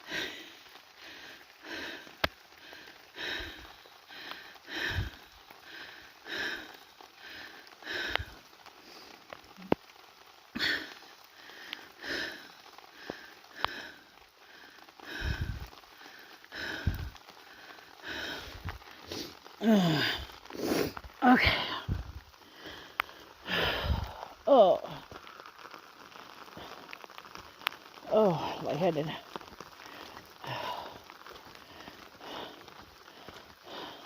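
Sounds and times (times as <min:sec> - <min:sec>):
person breathing hard: 0:00.0 - 0:34.0
rain patter: 0:00.0 - 0:34.0
raindrop ticks: 0:00.0 - 0:34.0.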